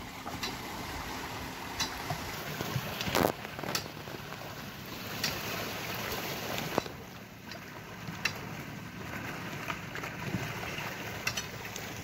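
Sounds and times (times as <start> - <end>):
sea: 0.0 - 12.0
wind: 0.0 - 12.0.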